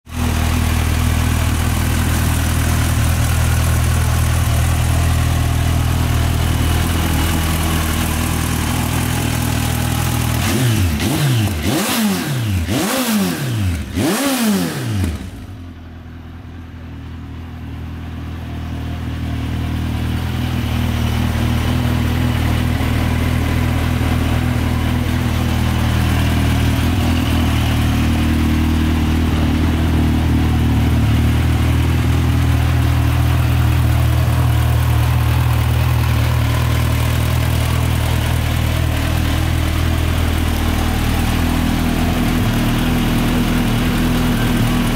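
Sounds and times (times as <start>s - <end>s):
motorcycle engine idling: 0.1s - 44.9s.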